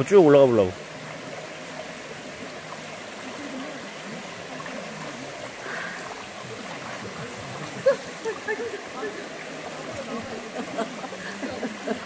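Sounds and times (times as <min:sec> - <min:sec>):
stream water flowing over rocks: 0:00.0 - 0:12.0.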